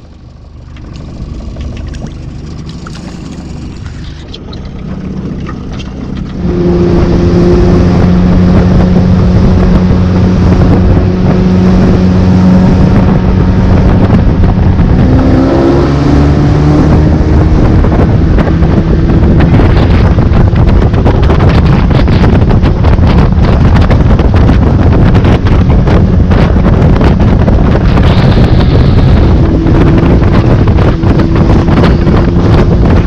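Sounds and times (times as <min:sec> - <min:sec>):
motorboat engine: 0:00.0 - 0:33.0
wind buffeting microphone: 0:00.0 - 0:33.0.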